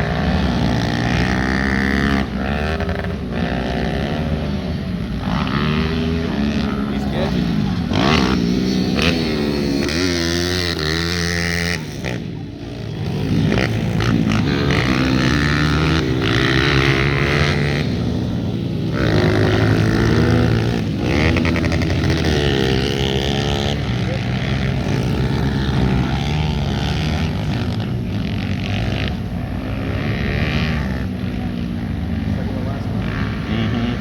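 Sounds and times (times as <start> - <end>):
pit bike engines revving: 0.0 - 34.0.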